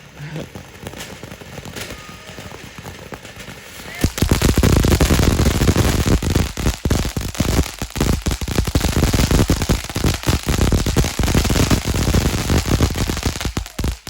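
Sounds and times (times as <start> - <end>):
firework fountain crackling: 0.0 - 14.0.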